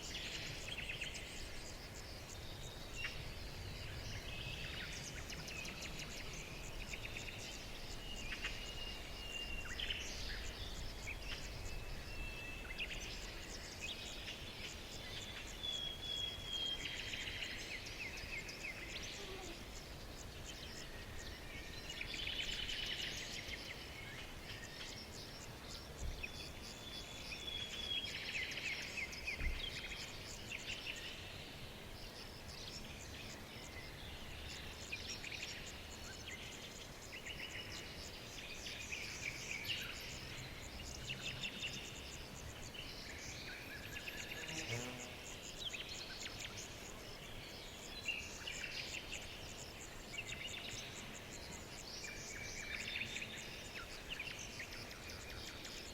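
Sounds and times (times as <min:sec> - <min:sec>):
faint outdoor background: 0:00.0 - 0:55.9
songbirds singing and chirping: 0:00.0 - 0:55.9.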